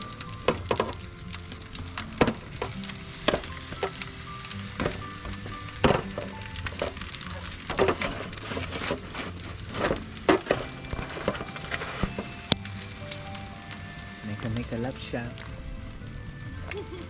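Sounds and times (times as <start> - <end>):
background music: 0.0 - 17.0
crackling pops: 0.0 - 17.0
food sizzling on a grill: 0.0 - 17.0.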